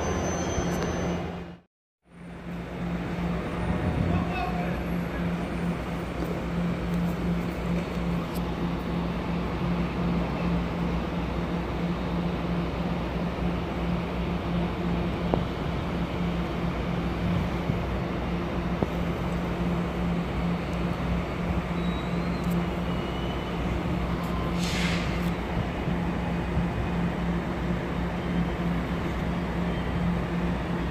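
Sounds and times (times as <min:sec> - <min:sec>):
locomotive humming: 0:00.0 - 0:30.9.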